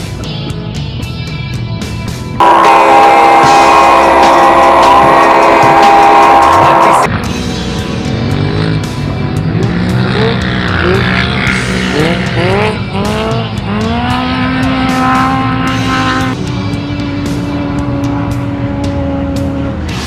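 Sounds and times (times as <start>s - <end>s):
race car engine revving: 2.4s - 20.0s.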